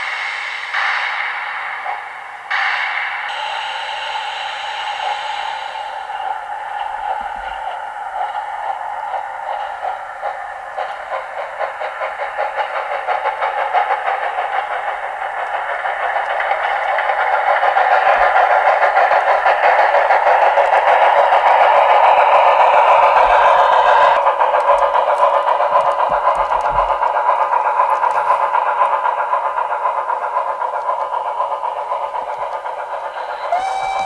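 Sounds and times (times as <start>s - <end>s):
steam locomotive chuffing: 0.0s - 34.0s
model train rolling: 2.5s - 34.0s.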